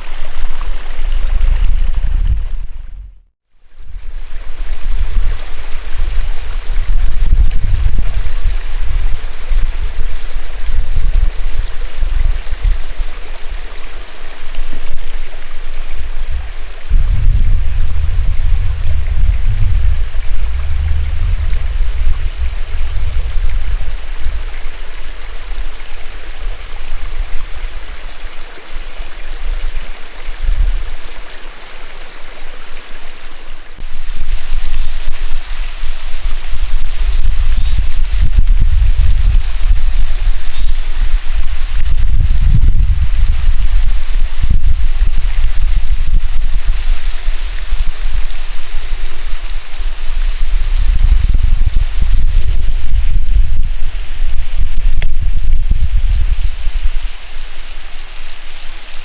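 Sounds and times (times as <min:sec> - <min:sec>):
wind buffeting microphone: 0:00.0 - 0:31.2, 0:33.8 - 0:58.0
creek water over rocks: 0:00.0 - 0:59.0.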